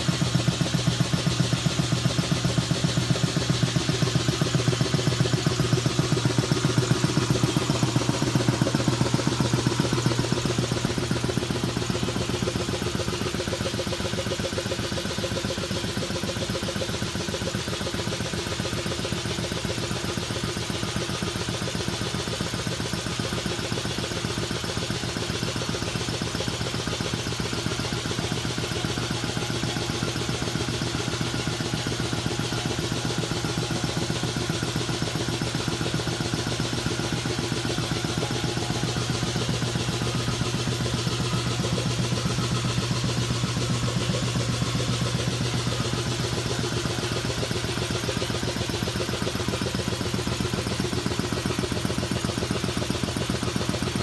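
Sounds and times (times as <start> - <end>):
air compressor running: 0.0 - 54.0.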